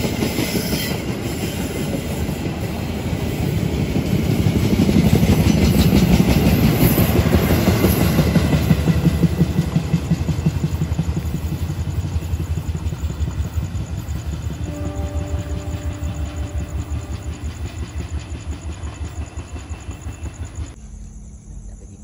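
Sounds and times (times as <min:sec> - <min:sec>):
train wheels clattering on rails: 0:00.0 - 0:20.8.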